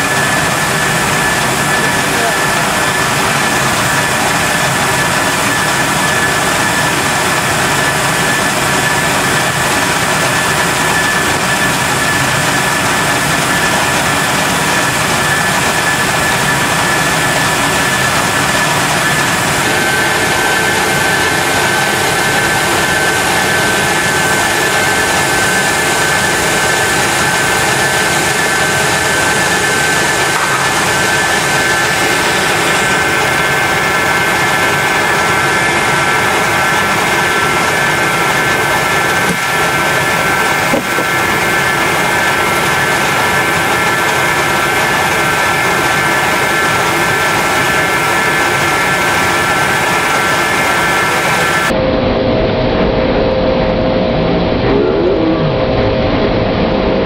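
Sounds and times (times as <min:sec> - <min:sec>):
rice huller running: 0:00.0 - 0:51.8
high mechanical whine: 0:00.0 - 0:57.0.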